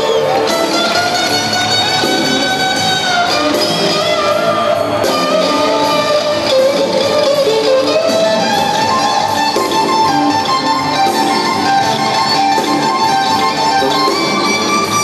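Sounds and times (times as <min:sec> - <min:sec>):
electric guitar bending notes: 0:00.0 - 0:15.0
live rock band playing: 0:00.0 - 0:15.0.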